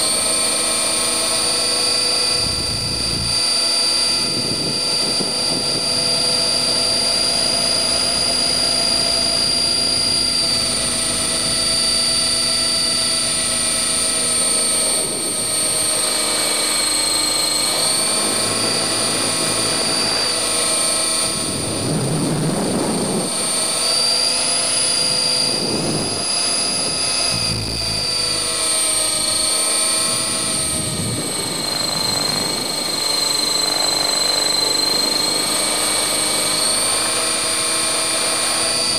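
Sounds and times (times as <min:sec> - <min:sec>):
model helicopter motor whine: 0:00.0 - 0:38.9
wind rumble on microphone: 0:00.2 - 0:38.9.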